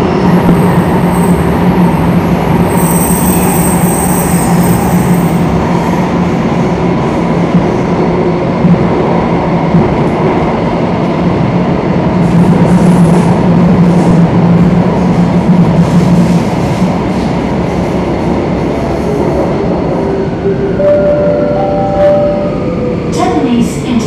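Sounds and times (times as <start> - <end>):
train wheels rumbling on rail: 0.0 - 21.4.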